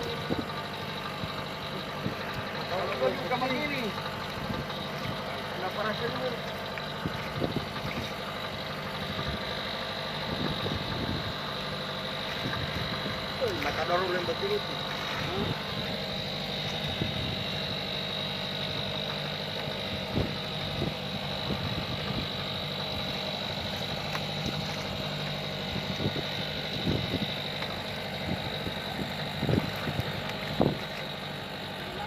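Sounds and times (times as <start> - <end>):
boat engine idling: 0.0 - 32.0.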